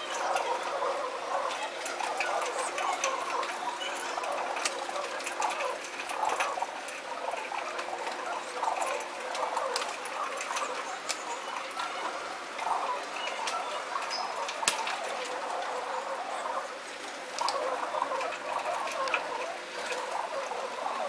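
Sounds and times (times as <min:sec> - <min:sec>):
pigeons cooing: 0:00.0 - 0:21.0
pigeons scuffling: 0:00.0 - 0:21.0.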